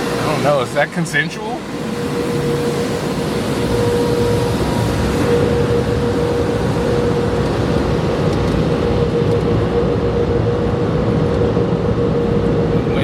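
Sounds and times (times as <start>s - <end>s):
car wash rushing noise: 0.0s - 13.0s
constant machinery hum: 0.0s - 13.0s.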